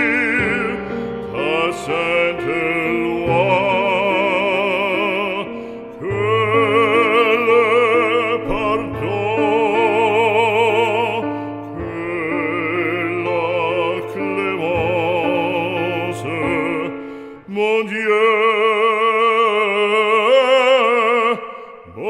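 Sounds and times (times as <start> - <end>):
sustained musical accompaniment: 0.0 - 21.3
operatic voice singing: 0.0 - 22.0.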